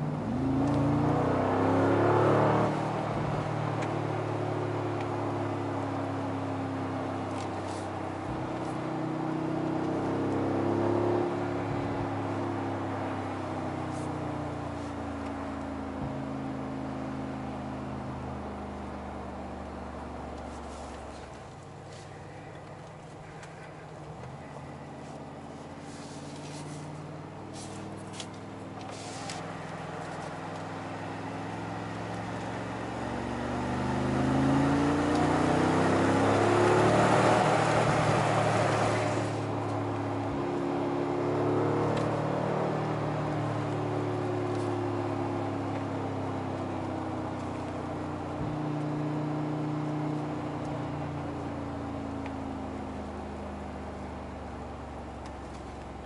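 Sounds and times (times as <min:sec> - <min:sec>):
car engine accelerating through upshifts: 0:00.0 - 0:56.0.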